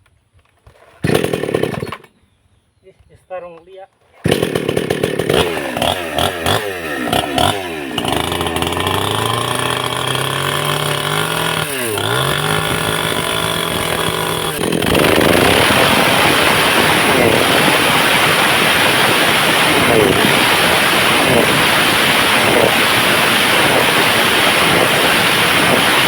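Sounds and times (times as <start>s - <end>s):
chainsaw cutting iron rod: 1.0s - 2.2s, 4.2s - 26.0s
chainsaw revving: 1.0s - 2.2s, 4.2s - 26.0s.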